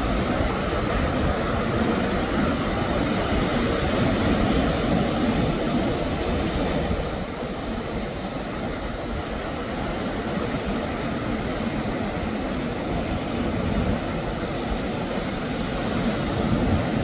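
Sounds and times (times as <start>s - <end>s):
surf washing: 0.0s - 17.0s
wind buffeting microphone: 0.0s - 17.0s.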